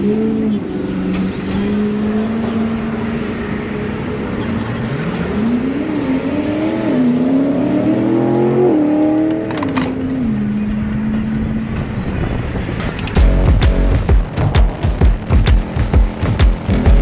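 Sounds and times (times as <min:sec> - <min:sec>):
motorcycle engine revving: 0:00.0 - 0:17.0
wind and road rush: 0:00.0 - 0:17.0.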